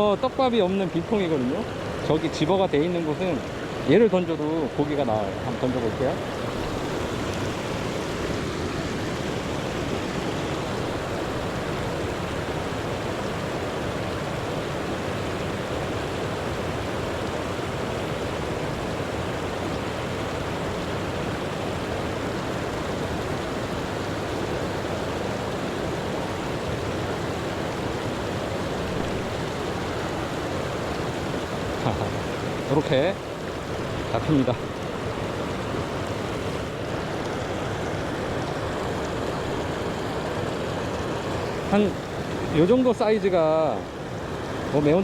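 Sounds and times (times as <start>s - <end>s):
stream water flowing over rocks: 0.0s - 45.0s.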